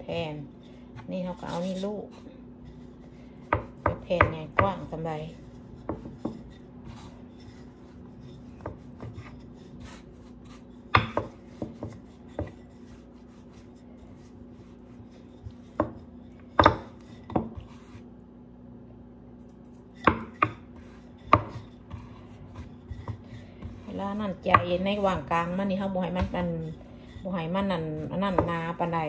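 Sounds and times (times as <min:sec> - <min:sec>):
rolling pin rolling dough: 0:00.0 - 0:18.2, 0:19.9 - 0:29.0
steady low hum: 0:00.0 - 0:29.0.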